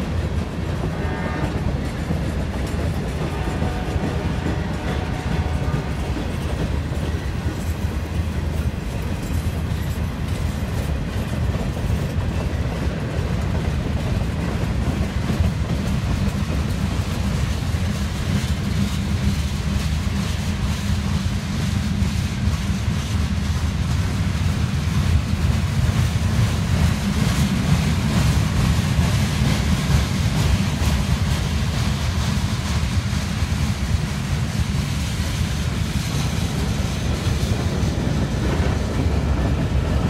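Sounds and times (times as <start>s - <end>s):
steel wheels rumbling on rail: 0.0s - 40.0s
wheels clicking over rail joints: 0.0s - 40.0s.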